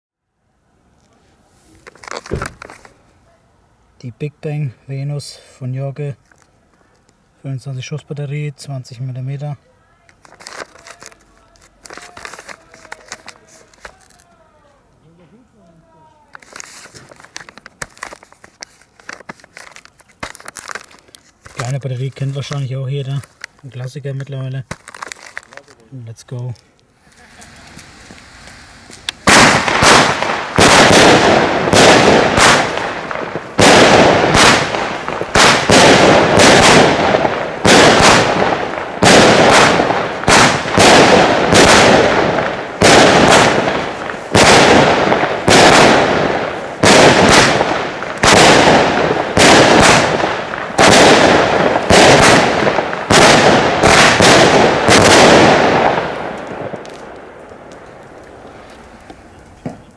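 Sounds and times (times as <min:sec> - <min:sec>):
firework bangs: 0:01.4 - 0:03.1, 0:08.9 - 0:14.8, 0:15.8 - 0:59.9.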